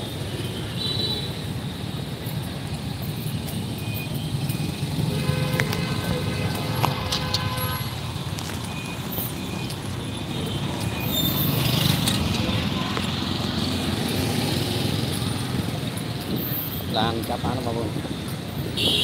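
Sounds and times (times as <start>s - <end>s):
motorbikes and cars passing: 0.0s - 19.0s.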